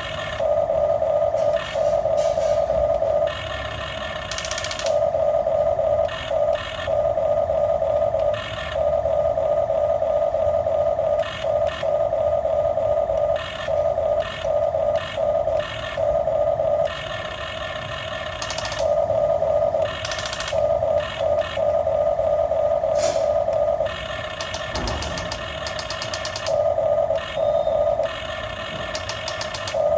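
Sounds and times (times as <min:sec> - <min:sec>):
toy electric motors whining: 0:00.0 - 0:29.9.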